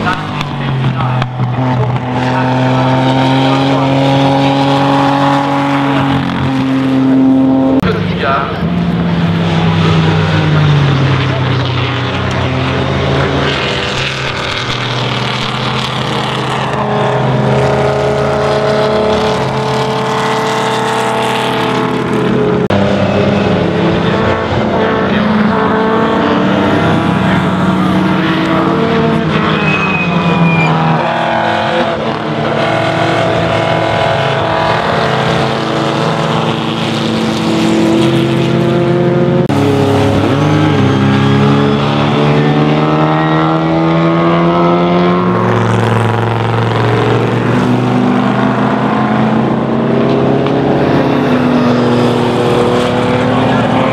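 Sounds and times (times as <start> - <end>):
racing car engines passing: 0.0 - 53.9.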